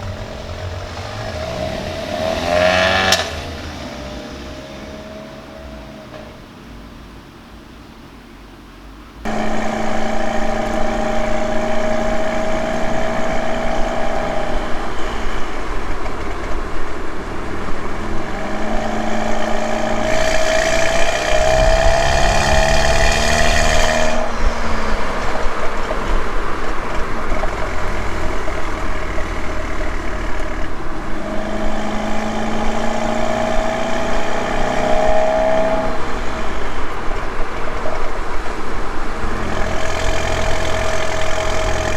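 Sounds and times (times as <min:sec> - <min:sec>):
car engine and exhaust: 0:00.0 - 0:41.9.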